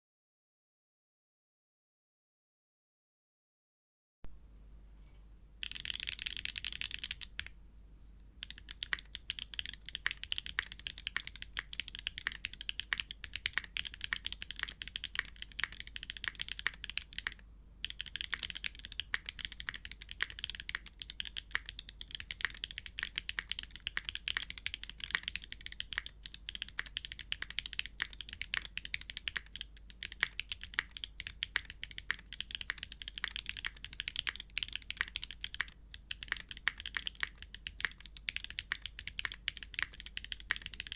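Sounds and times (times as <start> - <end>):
mechanical keyboard typing: 5.6 - 7.5, 8.4 - 40.9.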